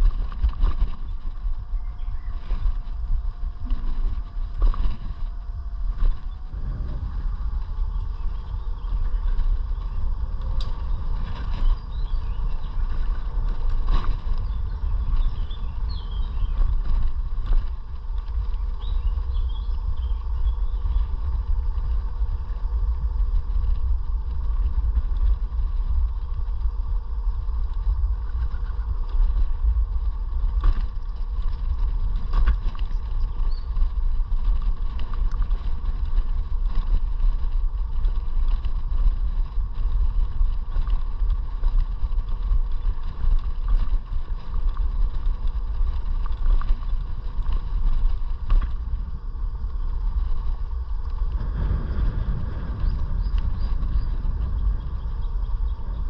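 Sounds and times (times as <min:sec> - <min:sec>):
electric scooter motor whine: 0:00.0 - 0:56.0
wind rumble on microphone: 0:00.0 - 0:56.0.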